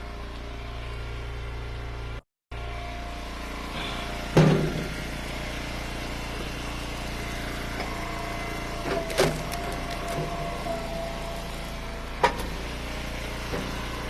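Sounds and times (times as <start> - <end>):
wood splitter engine running: 0.0 - 14.0.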